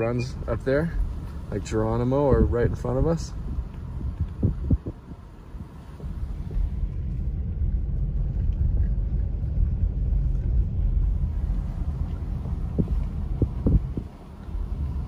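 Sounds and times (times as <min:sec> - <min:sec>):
car interior engine rumble: 0:00.0 - 0:15.0.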